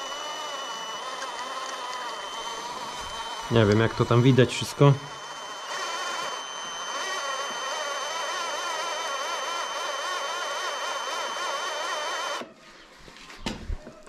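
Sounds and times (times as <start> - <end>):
electric drill whining: 0.0 - 12.6.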